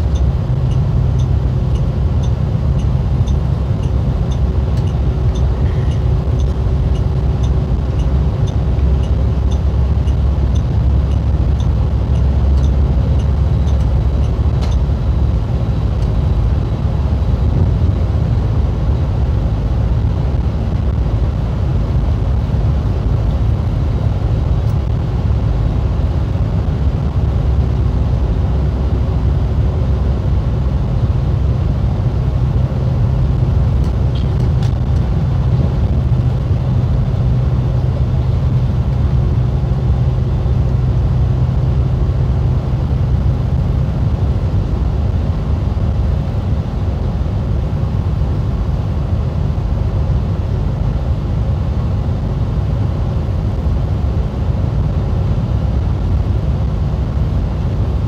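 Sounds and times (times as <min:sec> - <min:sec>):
bus engine and tyres droning: 0:00.0 - 0:58.0
steady low hum: 0:00.0 - 0:58.0.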